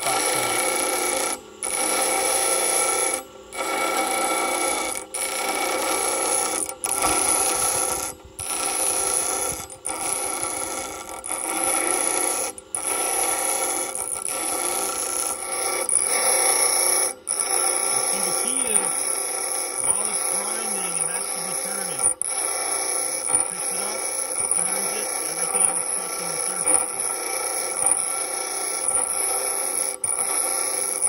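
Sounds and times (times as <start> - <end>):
grinder grinding metal: 0.0 - 31.0
grinder motor whine: 0.0 - 31.0.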